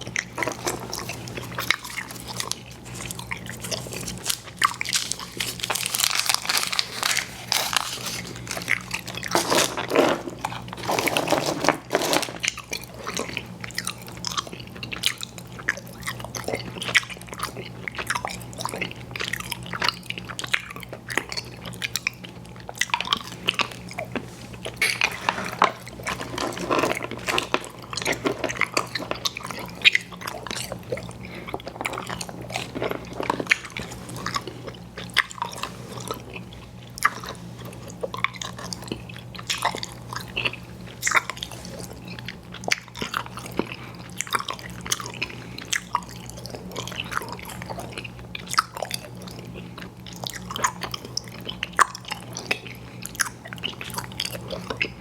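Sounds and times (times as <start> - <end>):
chewing soft candy: 0.0 - 55.0
faint steady hum: 0.0 - 55.0.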